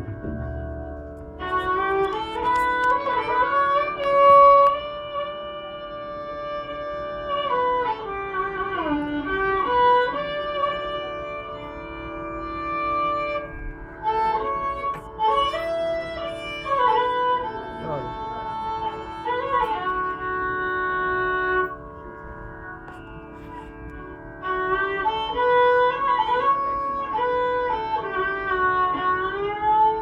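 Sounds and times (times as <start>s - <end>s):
steady drone: 0.0s - 28.7s
violin playing slow melody: 0.0s - 30.0s.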